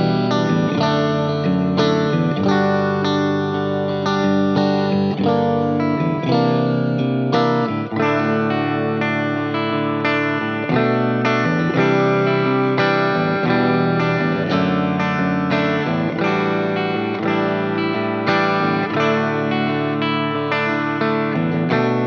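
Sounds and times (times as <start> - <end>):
backing track with bass: 0.0 - 22.0
electric guitar picked notes: 0.0 - 22.0.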